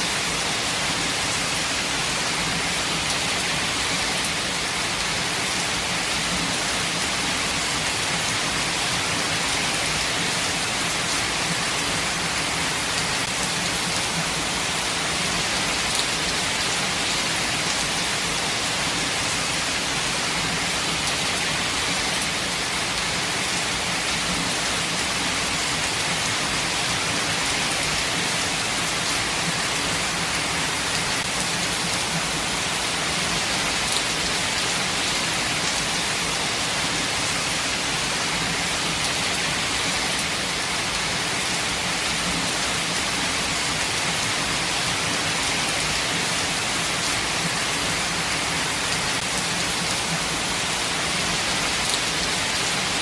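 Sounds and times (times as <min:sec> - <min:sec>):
rain hiss: 0:00.0 - 0:53.0.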